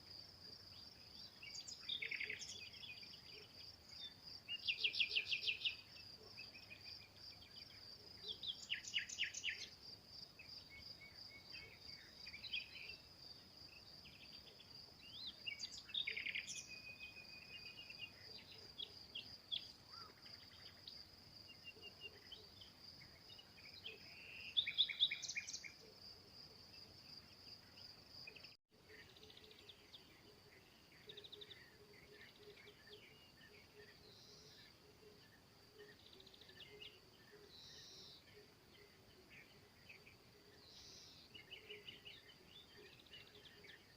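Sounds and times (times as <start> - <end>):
small songbirds singing: 0.0 - 43.9.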